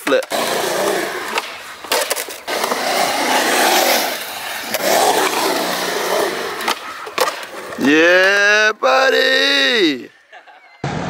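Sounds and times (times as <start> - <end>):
skateboard wheels rolling on concrete: 0.0 - 10.8.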